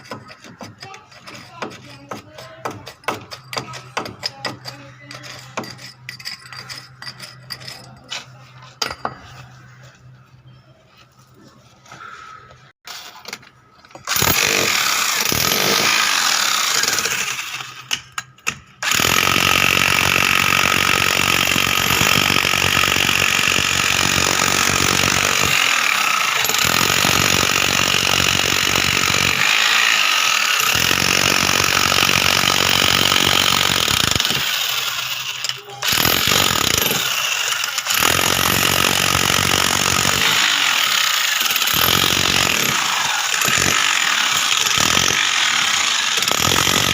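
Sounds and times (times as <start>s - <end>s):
power tool hammering rattle: 0.0s - 7.8s, 13.3s - 46.9s.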